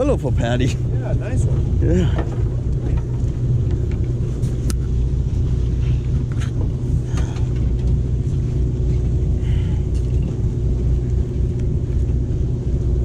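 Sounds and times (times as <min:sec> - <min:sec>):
boat engine rumbling: 0:00.0 - 0:13.0
faint steady hum: 0:00.0 - 0:13.0.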